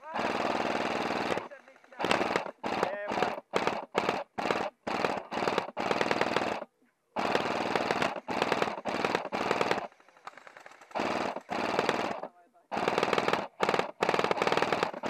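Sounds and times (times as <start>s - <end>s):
airsoft gun firing bursts: 0.0s - 15.0s.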